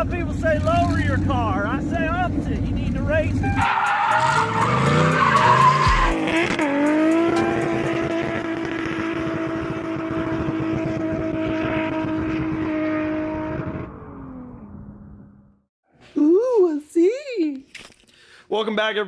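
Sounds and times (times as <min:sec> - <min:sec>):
car engine revving: 0:00.4 - 0:15.6.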